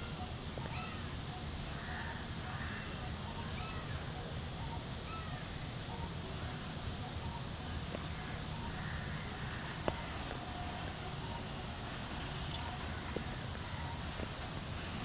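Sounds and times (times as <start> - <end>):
faint bird chirps: 0.0 - 14.4
steady background hiss: 0.0 - 15.0.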